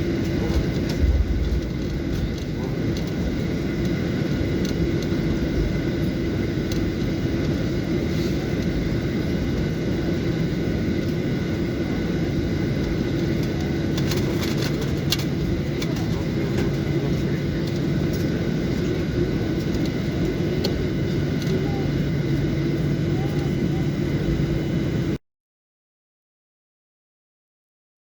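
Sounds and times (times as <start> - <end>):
vehicle rumble: 0.0 - 25.2.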